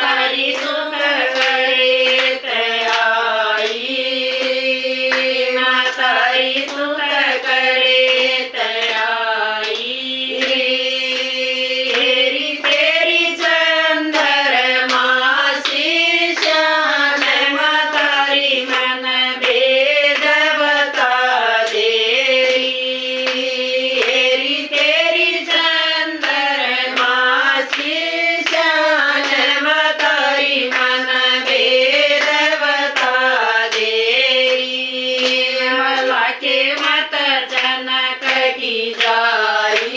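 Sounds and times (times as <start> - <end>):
hand claps: 0.0 - 39.9
women singing devotional song: 0.0 - 39.9.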